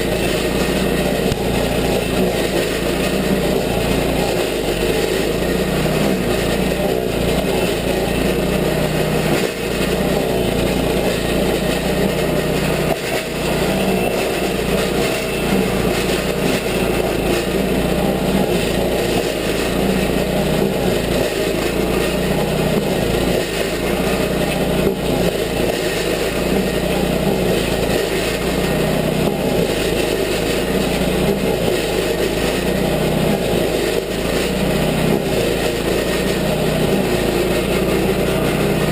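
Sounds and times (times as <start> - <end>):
cutter wheel grinding stump: 0.0 - 38.9
petrol engine running: 0.0 - 38.9.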